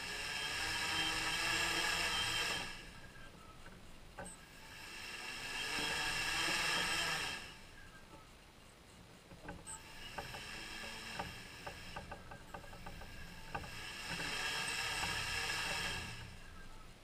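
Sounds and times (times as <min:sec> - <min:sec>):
drone motors ticking and whining: 0:00.0 - 0:17.0.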